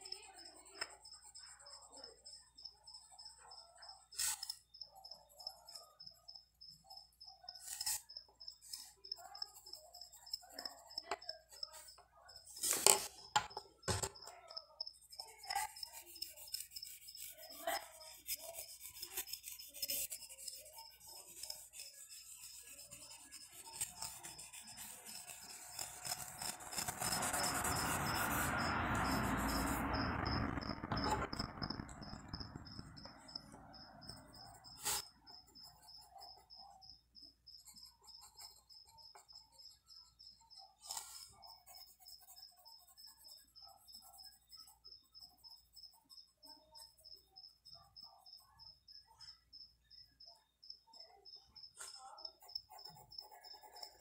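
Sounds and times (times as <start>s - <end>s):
pencil scratching on paper: 0.0s - 48.4s, 51.7s - 54.0s.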